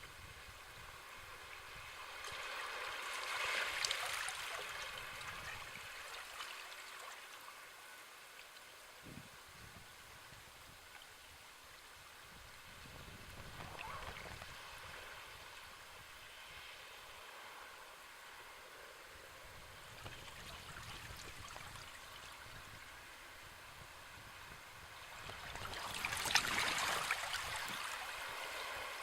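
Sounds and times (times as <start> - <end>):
faint sea waves washing in: 0.2 - 29.0.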